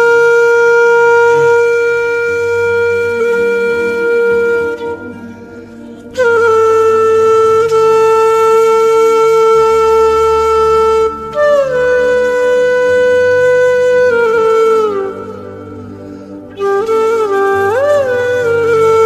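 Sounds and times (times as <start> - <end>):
flute-like wind instrument: 0.0 - 19.0
low sustained drone: 1.0 - 19.0.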